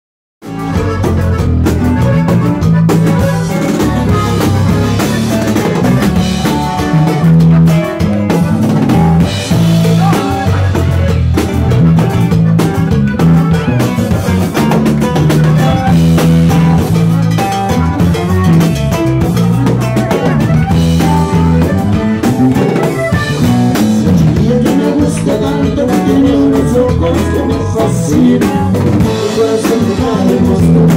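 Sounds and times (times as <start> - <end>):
accordion: 0.4 - 30.9
bass: 0.4 - 30.9
drum kit beat: 0.4 - 30.9
guitar: 0.4 - 30.9.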